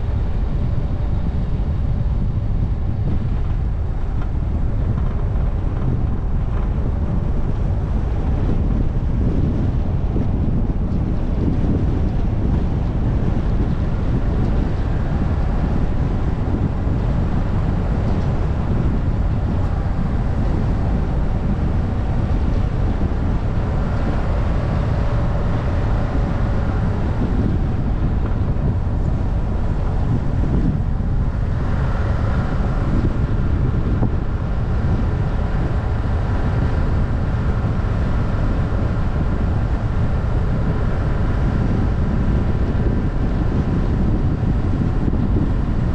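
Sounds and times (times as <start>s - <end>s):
car engine droning: 0.0s - 45.9s
wind buffeting microphone: 0.0s - 45.9s.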